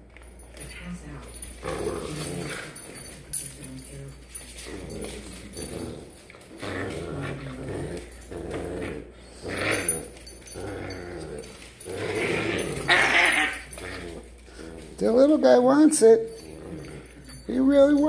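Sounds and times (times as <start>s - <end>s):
puppies growling in play: 0.0s - 18.0s.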